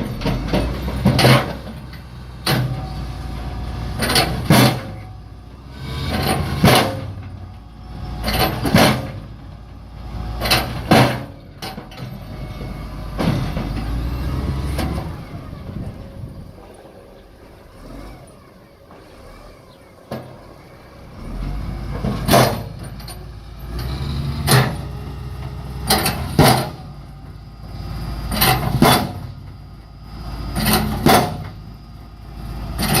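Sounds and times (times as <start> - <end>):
low engine rumble: 0.0 - 33.0.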